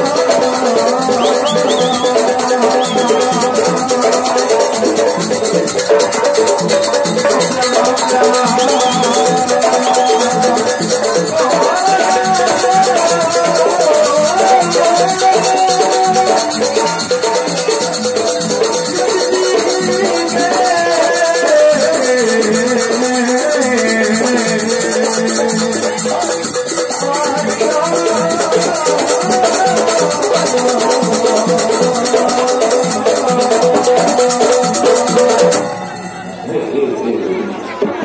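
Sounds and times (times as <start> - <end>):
fast rattling percussion: 0.0 - 36.8
wavering melody line: 0.0 - 37.0.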